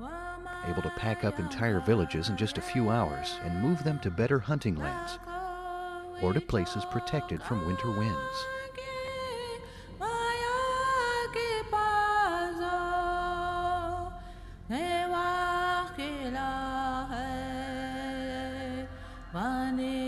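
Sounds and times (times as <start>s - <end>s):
slow chant-like singing: 0.0s - 20.0s.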